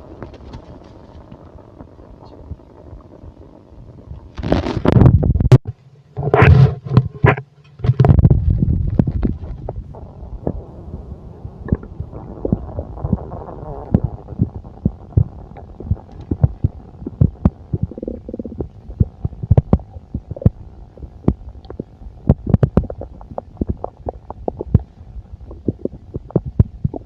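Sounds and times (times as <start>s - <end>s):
stomach gurgling and rumbling: 0.0s - 27.0s.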